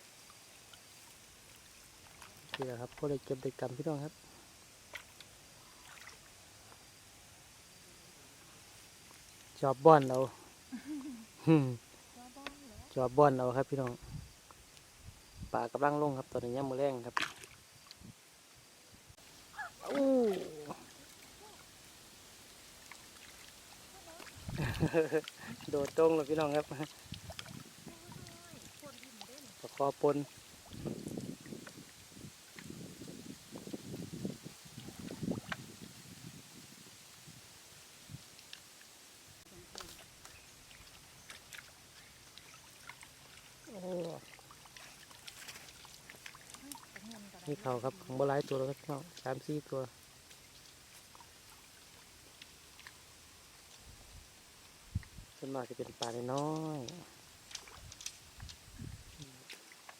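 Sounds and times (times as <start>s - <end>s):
small ticks and drips: 0.0s - 7.1s, 8.3s - 14.9s, 17.0s - 18.2s, 19.2s - 36.2s, 37.1s - 59.9s.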